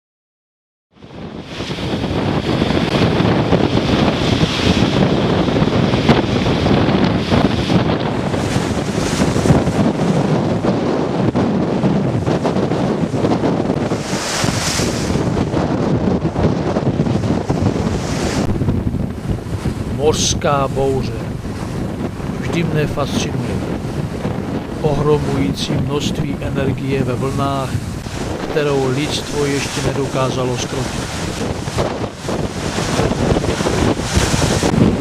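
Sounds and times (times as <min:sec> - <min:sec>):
wind buffeting microphone: 0:00.9 - 0:35.0
waves and surf breaking: 0:01.0 - 0:35.0.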